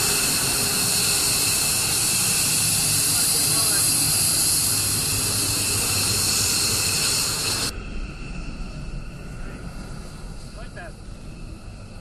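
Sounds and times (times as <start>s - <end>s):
jet aircraft rushing hiss: 0.0s - 12.0s.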